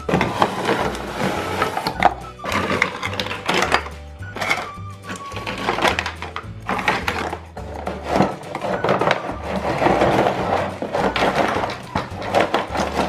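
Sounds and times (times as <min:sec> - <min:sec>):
background music with bass: 0:00.0 - 0:13.0
plastic toy pieces clattering: 0:00.0 - 0:13.0.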